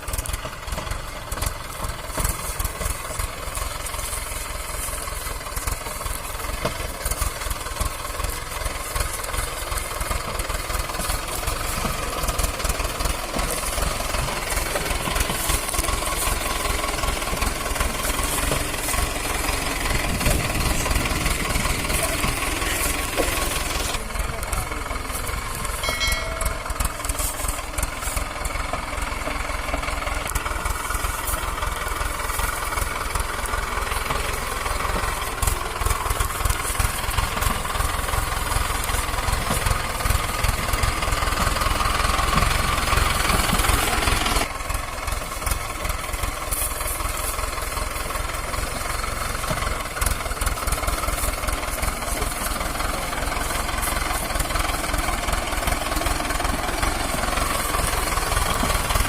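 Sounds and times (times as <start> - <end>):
diesel tractor engine running: 0.0 - 59.0.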